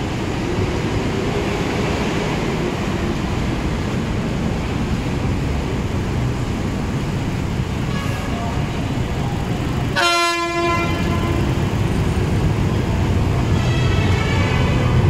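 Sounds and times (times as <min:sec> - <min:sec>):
approaching train: 0:00.0 - 0:15.0
city traffic rumble: 0:00.0 - 0:15.0.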